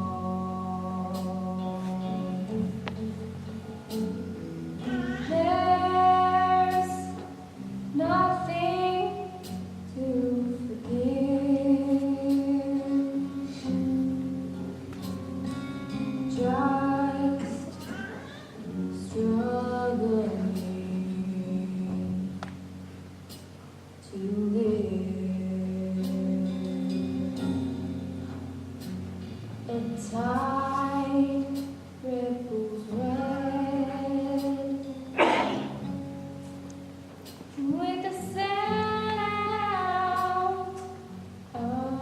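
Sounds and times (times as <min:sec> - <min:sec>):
woman singing slowly: 0:00.0 - 0:03.2, 0:03.9 - 0:14.2, 0:16.2 - 0:22.8, 0:24.0 - 0:28.2, 0:29.6 - 0:35.9, 0:37.5 - 0:42.0.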